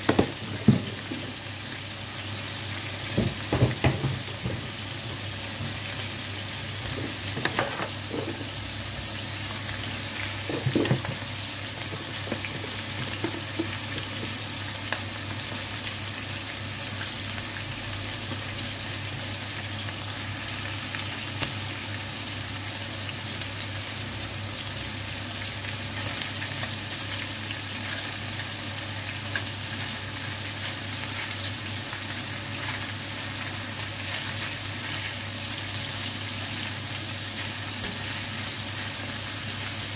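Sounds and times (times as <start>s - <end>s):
chicken frying in oil: 0.0s - 39.9s.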